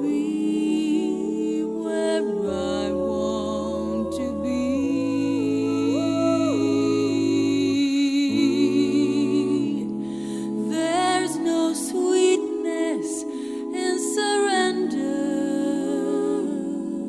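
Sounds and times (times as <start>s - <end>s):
slow background music: 0.0s - 17.0s.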